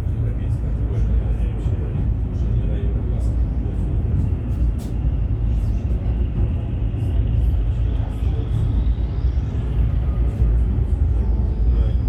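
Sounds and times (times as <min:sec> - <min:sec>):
tram running rumble: 0:00.0 - 0:12.0.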